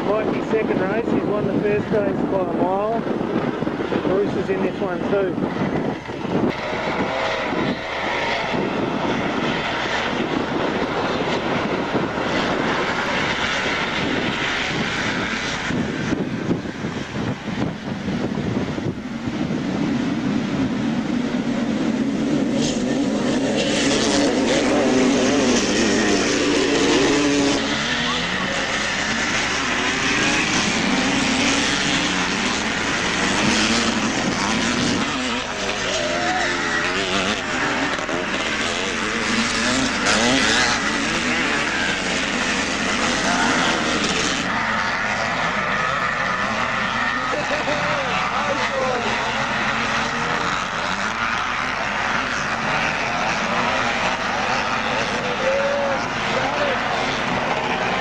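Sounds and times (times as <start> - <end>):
motocross bikes buzzing: 0.0 - 58.0.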